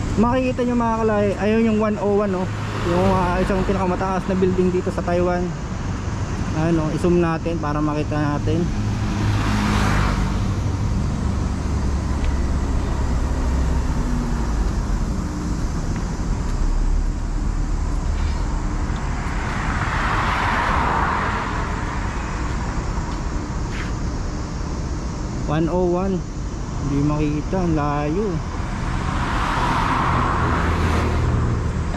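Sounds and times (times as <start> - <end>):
rumble of motor vehicles: 0.0 - 31.9
vehicle passing close: 1.4 - 23.9, 28.0 - 31.9.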